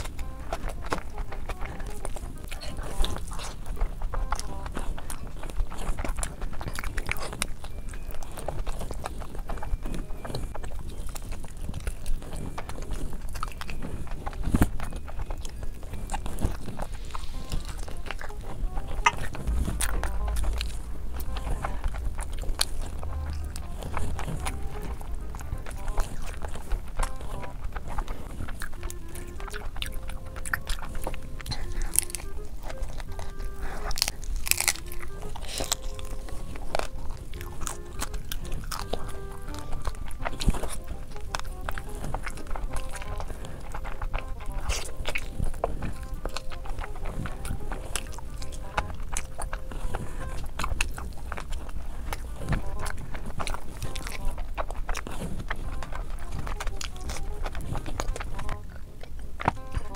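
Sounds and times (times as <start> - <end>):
simple background tune: 0.0 - 59.9
wet chewing and lip smacking: 0.0 - 59.9.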